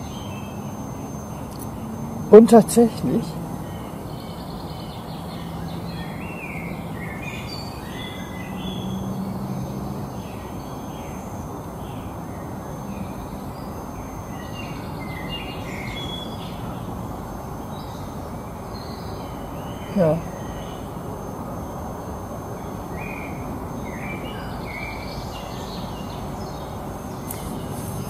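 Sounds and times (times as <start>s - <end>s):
background hiss: 0.0s - 28.0s
songbirds singing: 0.0s - 28.0s.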